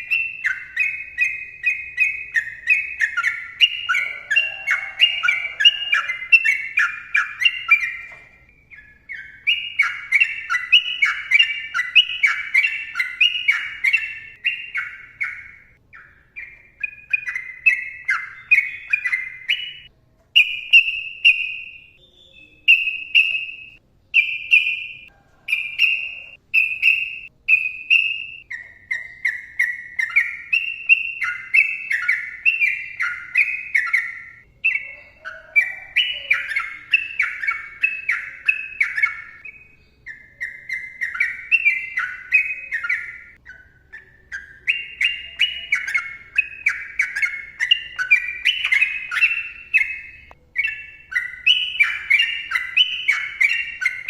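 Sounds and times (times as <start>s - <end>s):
bulbul singing: 0.0s - 54.0s.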